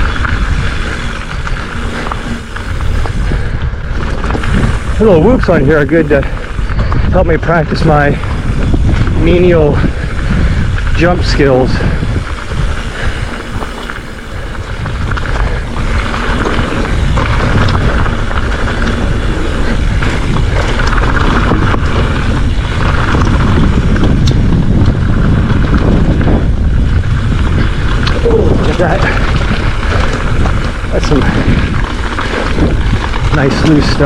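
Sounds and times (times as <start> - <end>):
bike tyres rumbling over dirt: 0.0 - 34.0
wind buffeting microphone: 0.0 - 34.0.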